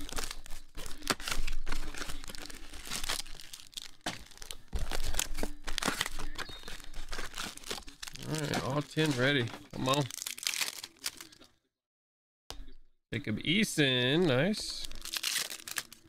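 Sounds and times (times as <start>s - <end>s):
wrappers crinkling and tearing: 0.0s - 11.5s, 14.6s - 16.0s.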